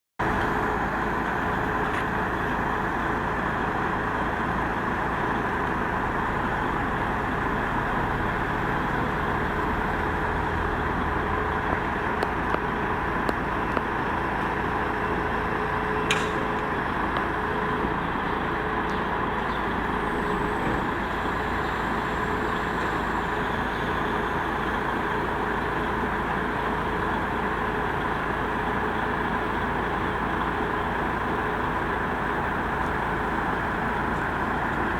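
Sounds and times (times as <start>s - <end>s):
crane diesel engine running: 0.2s - 34.9s.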